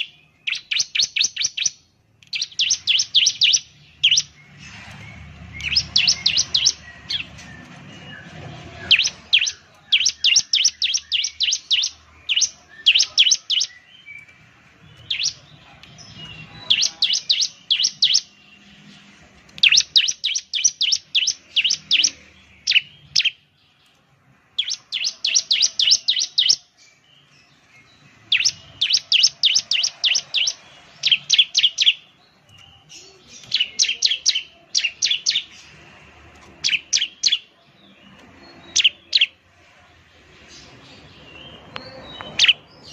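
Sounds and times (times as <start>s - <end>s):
bird singing rapid high chirps: 0.0s - 39.6s, 40.2s - 42.9s.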